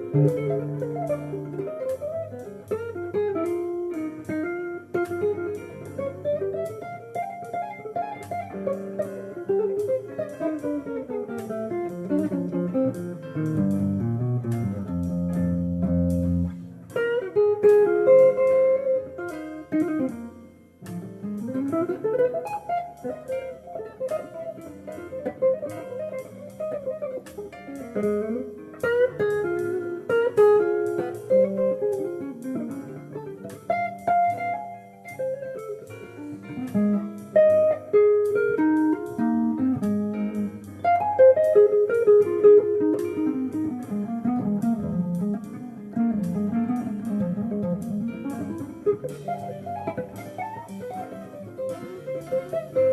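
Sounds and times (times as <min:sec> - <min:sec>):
jazz guitar solo: 0:00.0 - 0:52.9.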